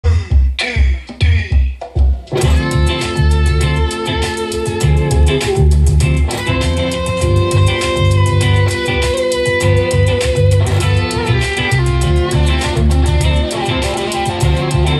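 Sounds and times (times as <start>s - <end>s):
backing track of drums and bass: 0.0s - 14.9s
electric guitar long held notes: 2.3s - 14.9s.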